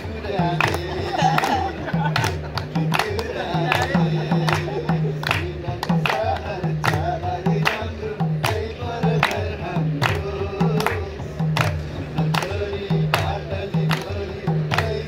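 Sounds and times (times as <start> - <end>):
barrel drum played by hand: 0.0 - 15.0
group clapping along: 0.0 - 15.0
group singing: 0.0 - 15.0.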